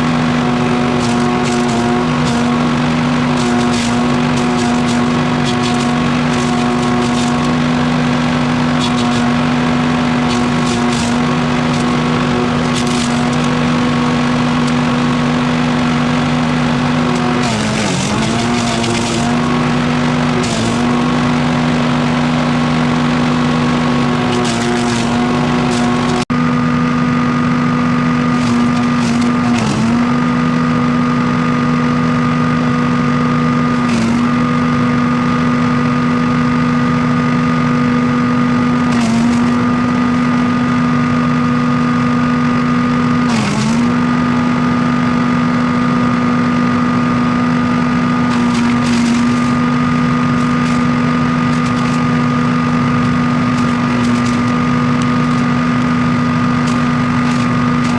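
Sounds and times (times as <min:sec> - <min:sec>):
wood chipper engine running: 0:00.0 - 0:57.9.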